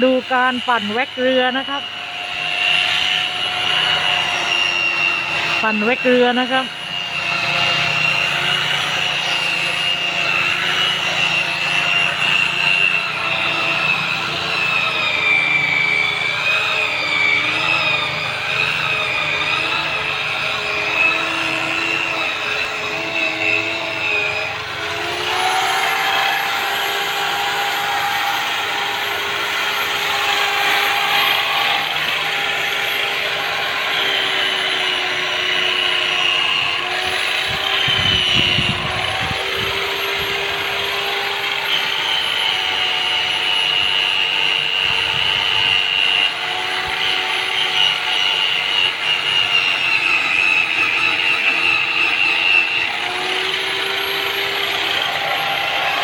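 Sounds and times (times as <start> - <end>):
electric polisher motor whining: 0.0 - 56.0.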